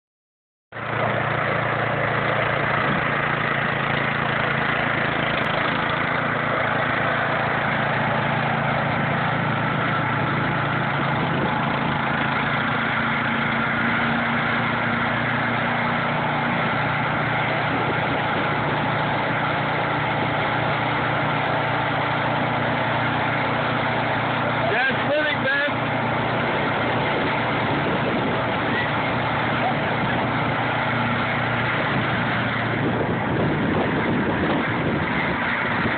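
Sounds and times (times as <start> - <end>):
snowblower engine running: 0.7 - 35.9.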